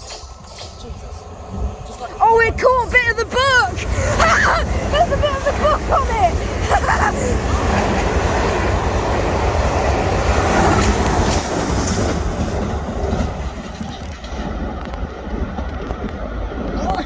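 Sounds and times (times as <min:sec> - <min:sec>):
train running along track: 0:00.0 - 0:17.0.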